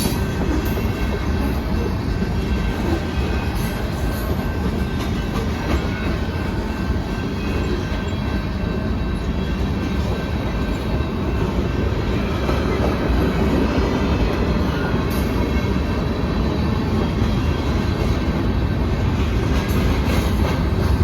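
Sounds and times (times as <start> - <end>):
freight train rumbling over rails: 0.0 - 21.0.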